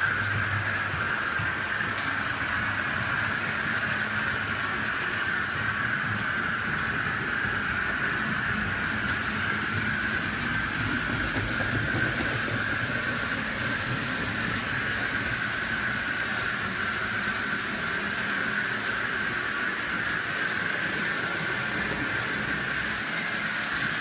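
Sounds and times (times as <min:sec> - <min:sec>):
model train motor whirring: 0:00.0 - 0:24.0.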